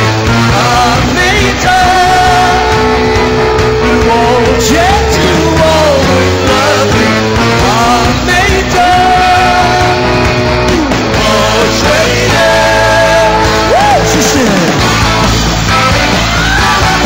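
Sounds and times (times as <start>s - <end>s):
drums: 0.0s - 17.0s
electric bass: 0.0s - 17.0s
male lead vocal: 0.0s - 17.0s.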